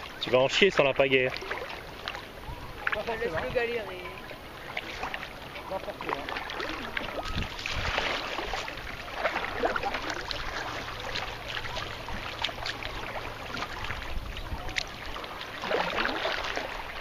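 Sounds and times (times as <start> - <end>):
hands paddling water: 0.0 - 17.0.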